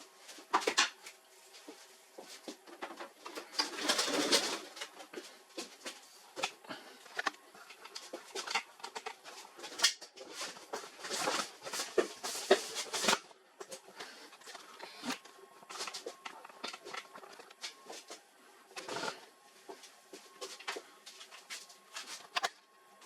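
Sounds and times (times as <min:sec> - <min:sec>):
hands handling printer parts: 0:01.7 - 0:18.2, 0:18.8 - 0:22.6.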